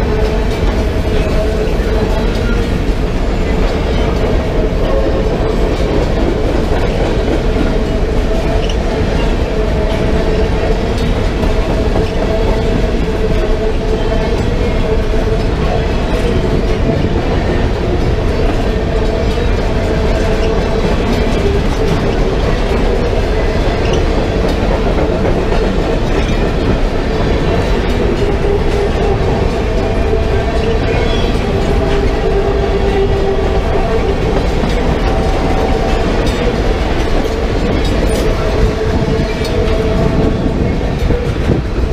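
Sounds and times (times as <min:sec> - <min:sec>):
freight train rumbling on rails: 0:00.0 - 0:41.9.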